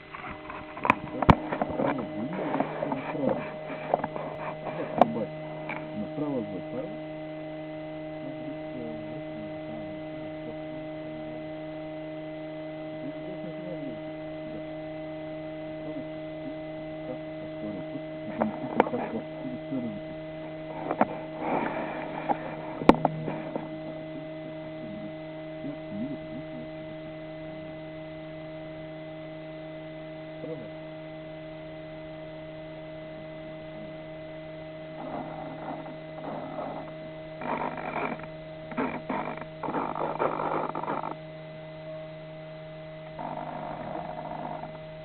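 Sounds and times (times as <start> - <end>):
steady electrical hum: 0.0 - 45.0.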